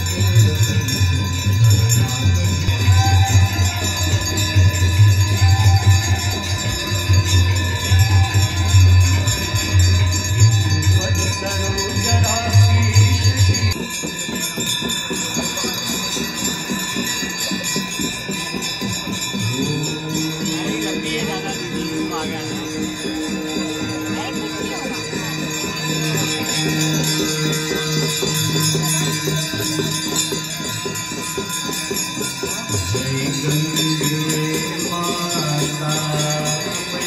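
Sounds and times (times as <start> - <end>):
devotional music: 0.0 - 37.0
hand bells ringing: 0.0 - 37.0.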